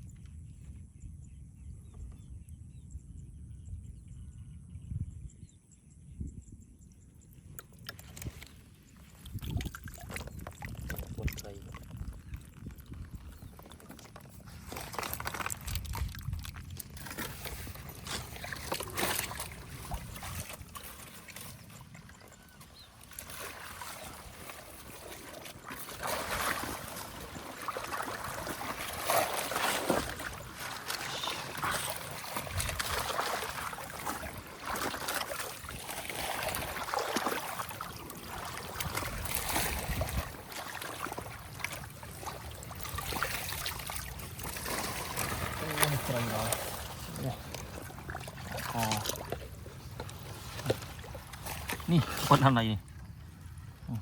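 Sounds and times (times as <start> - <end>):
water sloshing and trickling: 6.8 - 54.0.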